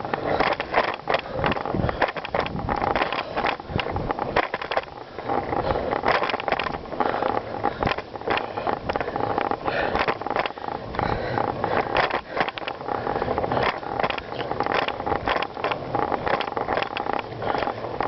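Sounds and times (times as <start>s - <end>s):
bicycle knocks and rattles: 0.0s - 18.0s
tyres crunching on gravel: 0.0s - 18.0s.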